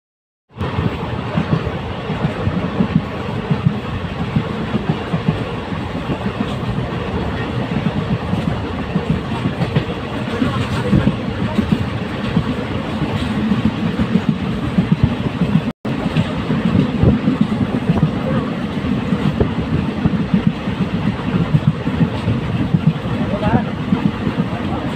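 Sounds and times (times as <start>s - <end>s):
train wheels rumbling on rail: 0.5s - 24.9s.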